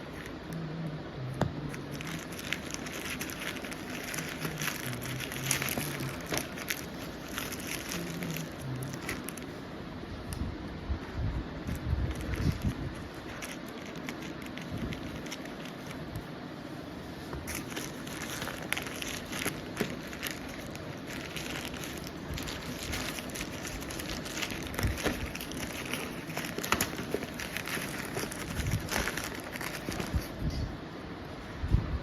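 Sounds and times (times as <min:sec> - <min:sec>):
packaging crackling and crinkling: 0:00.0 - 0:00.6, 0:01.6 - 0:09.6, 0:11.6 - 0:16.3, 0:17.1 - 0:30.5.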